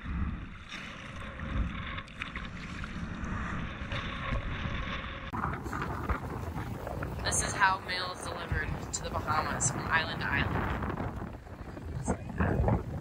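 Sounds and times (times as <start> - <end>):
water splashing against dinghy hull: 0.0 - 13.0
wind rumbling on microphone: 0.0 - 13.0.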